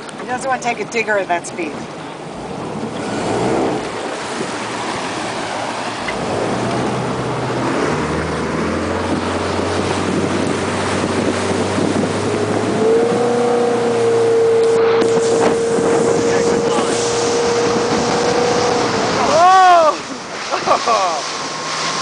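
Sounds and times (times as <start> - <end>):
motorboat engine running: 0.0 - 22.0
wind noise on microphone: 2.2 - 20.4.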